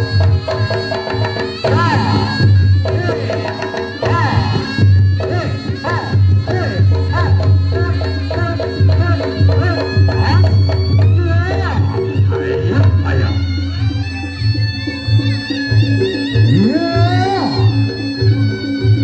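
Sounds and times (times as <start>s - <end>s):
drums and gongs beating: 0.0s - 19.0s
wavering high melody: 0.0s - 19.0s.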